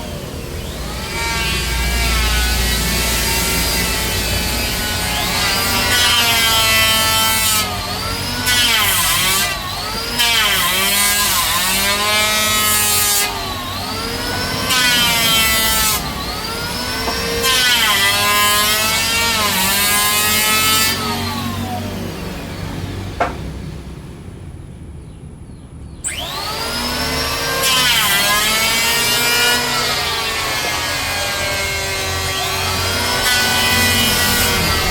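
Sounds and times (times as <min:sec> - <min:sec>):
power tool motor whine: 0:00.0 - 0:23.4, 0:26.0 - 0:34.9.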